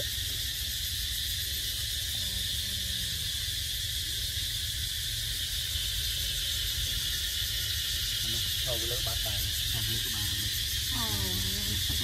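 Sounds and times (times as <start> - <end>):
high-pitched drone of insects: 0.0 - 12.0.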